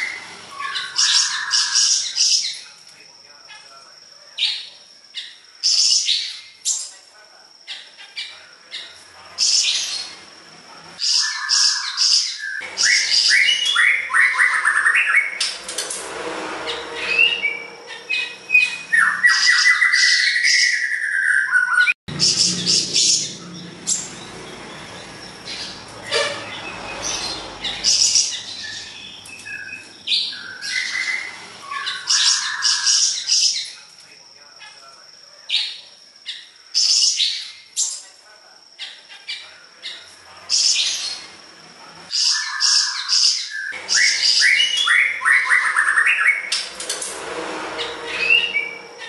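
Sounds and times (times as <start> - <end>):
songbird singing chirps and trills: 0.0 - 15.6, 17.1 - 41.5, 42.1 - 46.7.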